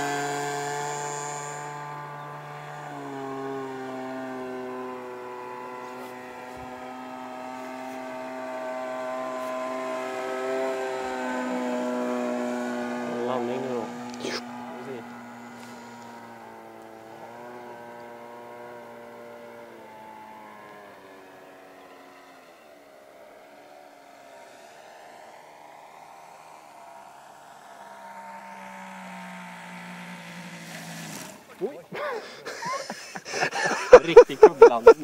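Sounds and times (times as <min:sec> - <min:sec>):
model plane motor droning: 0:00.0 - 0:35.0.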